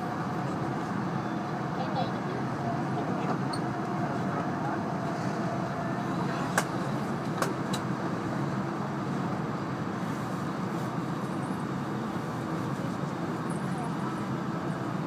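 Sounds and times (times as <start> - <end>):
train running noise inside car: 0.0 - 15.0.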